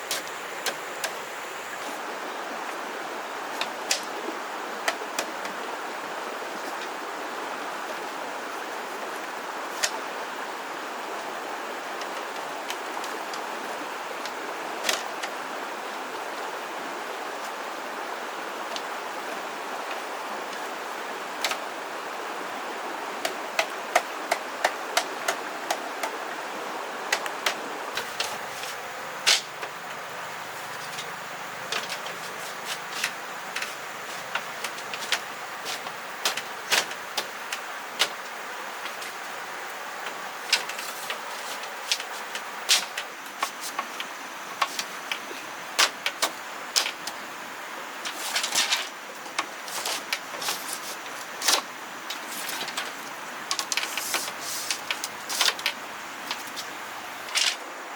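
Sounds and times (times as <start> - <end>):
steady hiss: 0.0 - 57.9.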